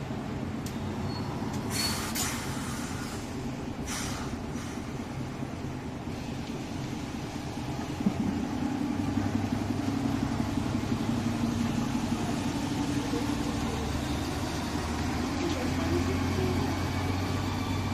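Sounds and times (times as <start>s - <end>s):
bus diesel engine idling: 0.0s - 17.9s.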